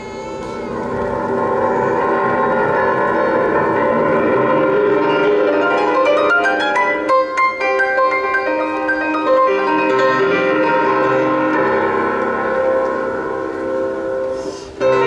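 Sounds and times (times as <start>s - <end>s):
fast piano playing: 0.0s - 15.0s.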